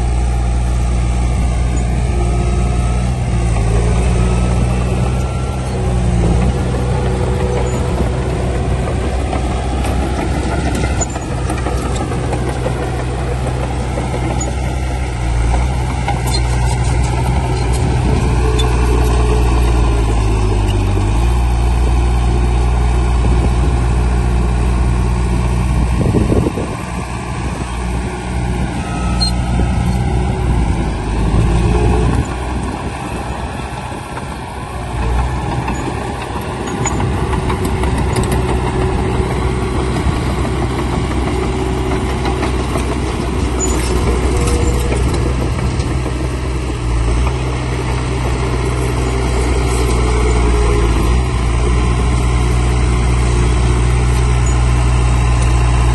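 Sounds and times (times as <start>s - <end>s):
heavy diesel machinery engine: 0.0s - 55.9s.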